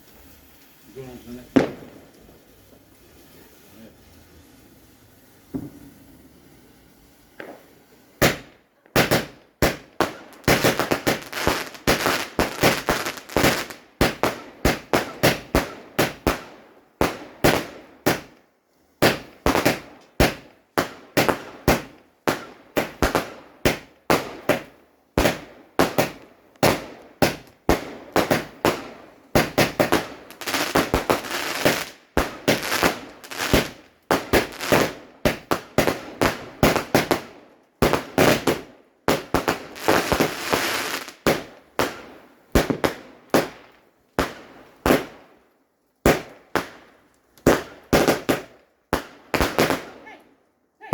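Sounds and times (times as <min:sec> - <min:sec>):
fireworks bangs and crackles: 0:00.0 - 0:45.4, 0:46.0 - 0:50.1.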